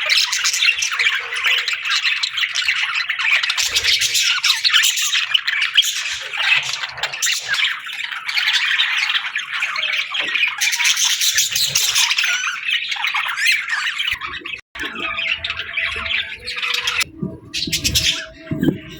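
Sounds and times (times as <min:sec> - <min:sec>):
budgerigars chattering and warbling: 0:00.0 - 0:18.9.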